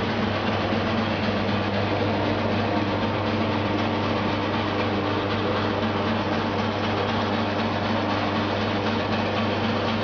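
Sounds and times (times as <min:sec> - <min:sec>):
low electric hum: 0:00.0 - 0:10.0.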